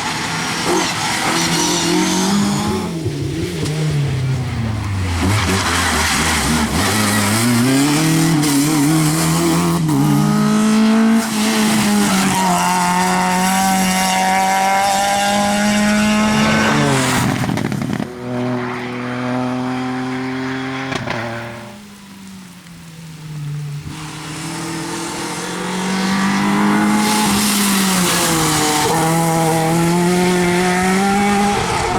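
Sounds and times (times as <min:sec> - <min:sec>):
rally car engine at full throttle: 0:00.0 - 0:21.8, 0:23.6 - 0:31.9
car passing by: 0:00.0 - 0:22.0, 0:23.4 - 0:31.9.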